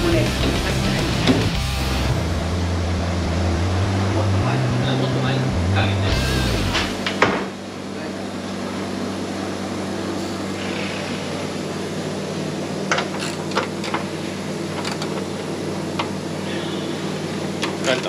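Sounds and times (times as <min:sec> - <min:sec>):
ventilation fan humming: 0:00.0 - 0:18.0.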